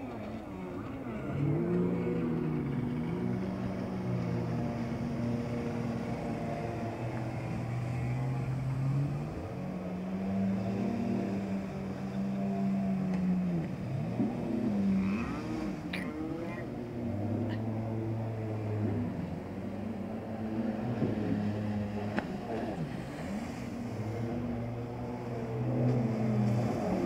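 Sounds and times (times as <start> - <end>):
jet ski engines racing: 0.0 - 27.0.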